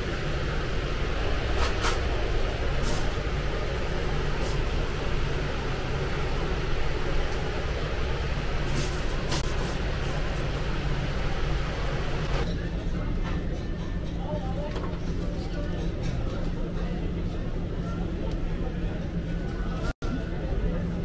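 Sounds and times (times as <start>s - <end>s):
restaurant kitchen hum: 0.0s - 21.0s.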